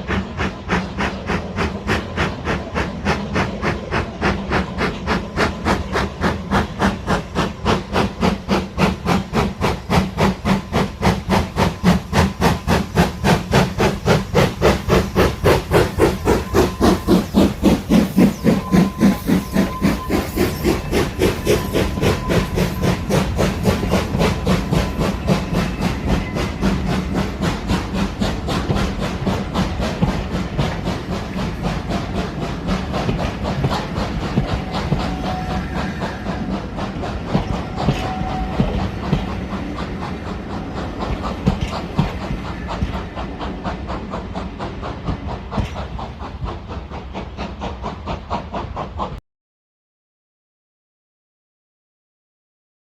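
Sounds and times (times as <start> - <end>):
steady train rumble: 0.0 - 49.2
steam locomotive chuffing: 0.0 - 49.2.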